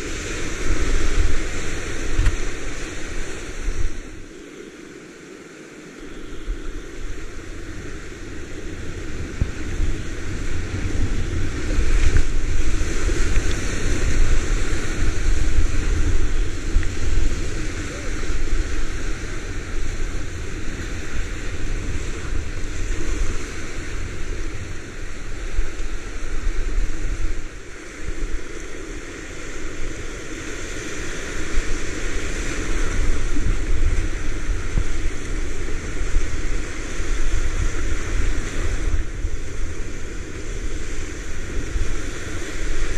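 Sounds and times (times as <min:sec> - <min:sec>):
wind buffeting microphone: 0:00.0 - 0:05.0, 0:05.9 - 0:42.9
rushing whitewater: 0:00.0 - 0:42.9.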